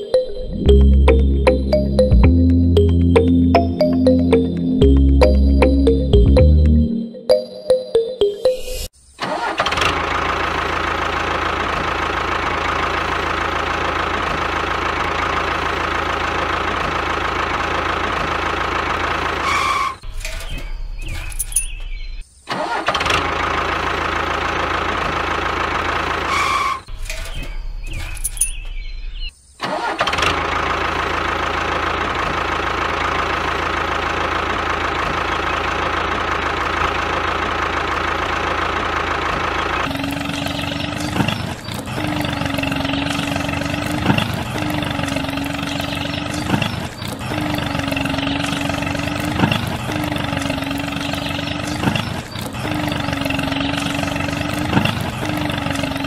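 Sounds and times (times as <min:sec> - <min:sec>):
tractor engine running: 0:00.0 - 0:07.4, 0:09.2 - 0:28.8, 0:29.6 - 0:56.0.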